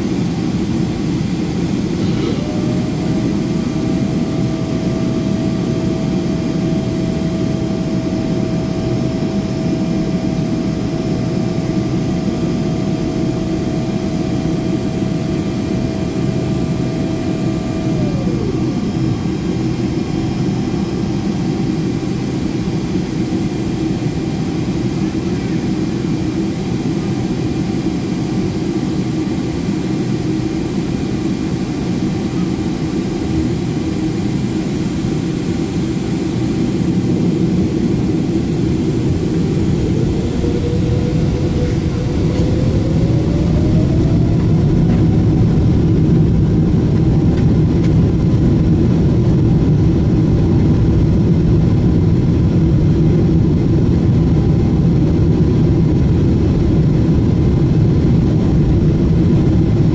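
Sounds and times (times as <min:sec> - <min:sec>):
jet engines spooling up: 0:00.0 - 0:59.9
rising engine whine: 0:00.0 - 0:59.9.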